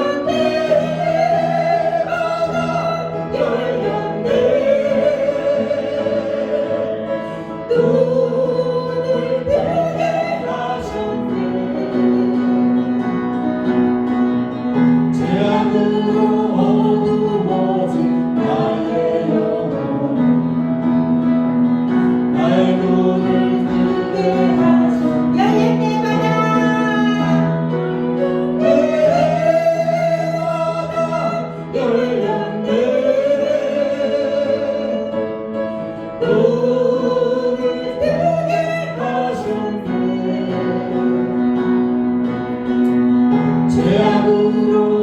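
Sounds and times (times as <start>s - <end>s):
voices singing worship song: 0.0s - 13.2s, 14.9s - 21.2s, 21.8s - 42.6s, 43.4s - 45.0s.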